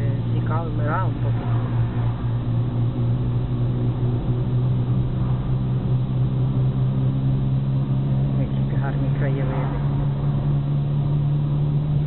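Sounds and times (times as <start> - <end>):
car engine and road noise drone: 0.0 - 12.0.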